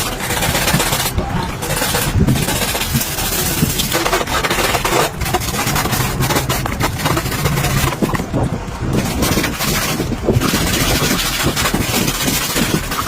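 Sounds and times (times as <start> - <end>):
motorcycle engine running: 0.0 - 13.0
ticks and scrapes: 0.0 - 13.0.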